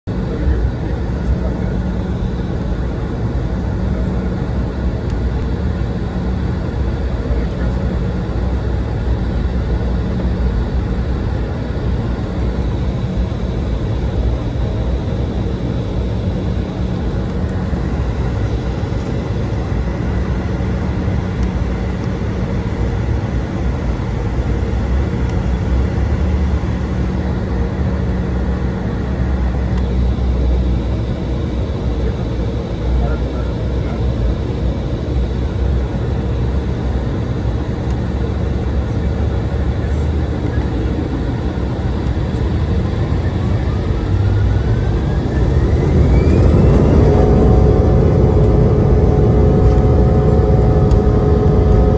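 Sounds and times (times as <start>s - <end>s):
jet cabin hum with high whine: 0.0s - 51.9s.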